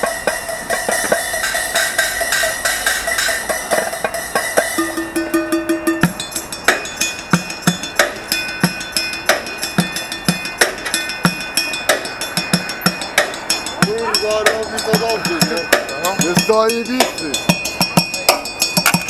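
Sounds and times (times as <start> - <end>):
drumming on buckets and pots: 0.0 - 19.0
metal bowls ringing: 0.0 - 19.0.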